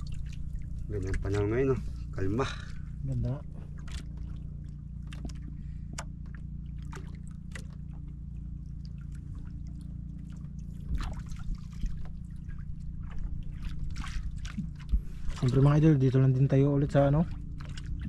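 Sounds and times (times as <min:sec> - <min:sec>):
steady low hum: 0:00.0 - 0:18.0
water sloshing and trickling: 0:00.0 - 0:18.0.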